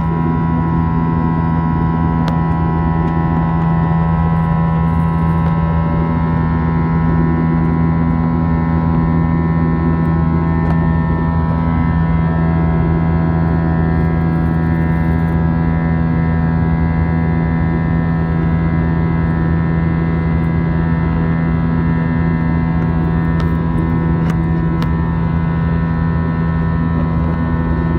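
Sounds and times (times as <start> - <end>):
jet engine drone in cabin: 0.0 - 27.9
steady humming tones: 0.0 - 27.9.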